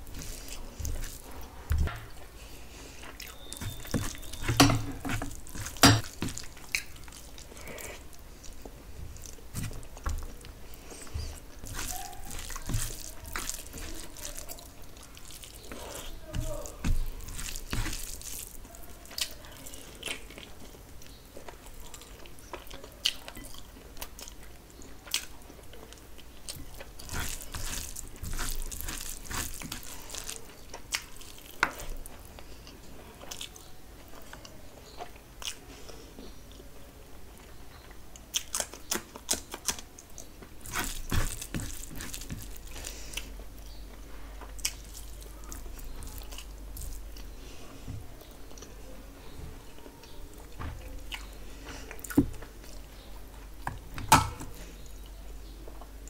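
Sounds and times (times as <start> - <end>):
person chewing food: 0.0 - 48.8, 49.6 - 56.0.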